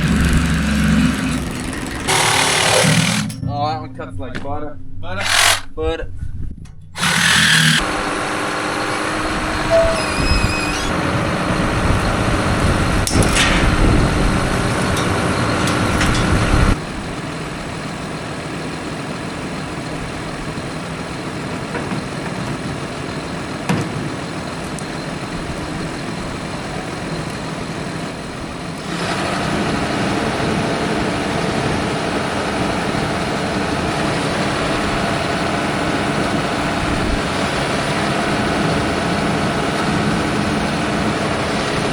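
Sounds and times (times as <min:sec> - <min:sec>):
heavy machine engine running: 0:00.0 - 0:03.4, 0:05.2 - 0:05.7, 0:07.0 - 0:41.9.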